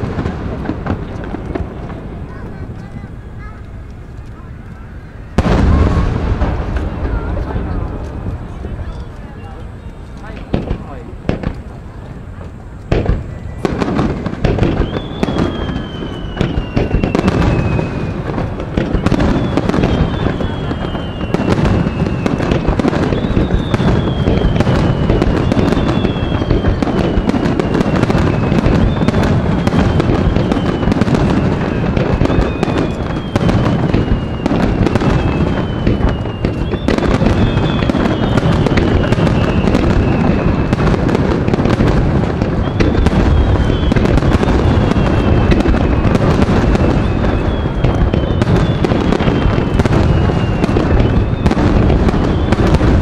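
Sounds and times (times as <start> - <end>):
fireworks booming and crackling: 0.0 - 53.0.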